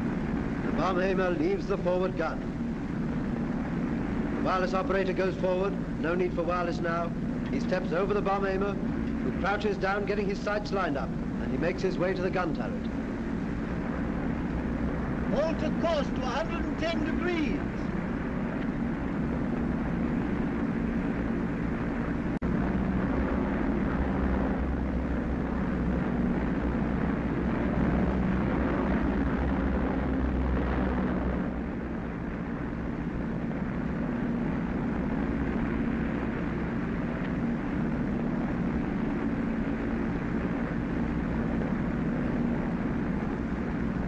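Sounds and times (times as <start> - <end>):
aircraft engines droning: 0.0 - 44.0.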